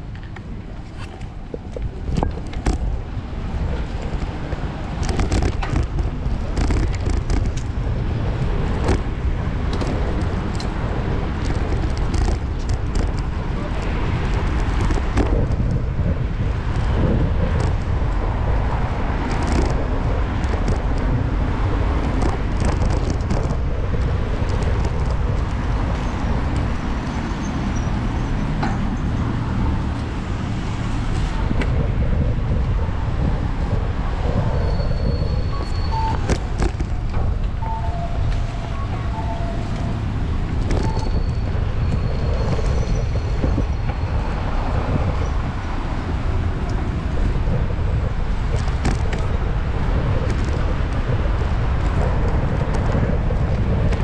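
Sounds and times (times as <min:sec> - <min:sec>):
bicycle clicks and rattles: 0:00.0 - 0:28.0, 0:31.1 - 0:38.4, 0:39.7 - 0:43.7, 0:44.8 - 0:54.0
street traffic: 0:00.0 - 0:54.0.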